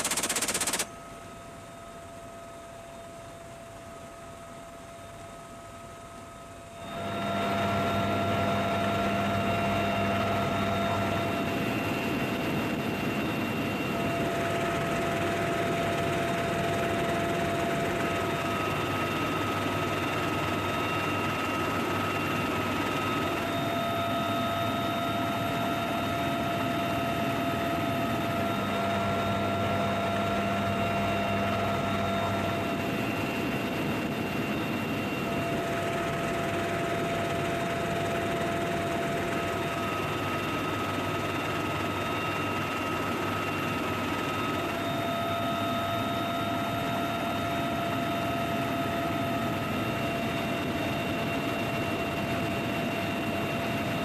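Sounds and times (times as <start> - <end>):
helicopter turbine whine: 0.0 - 54.0.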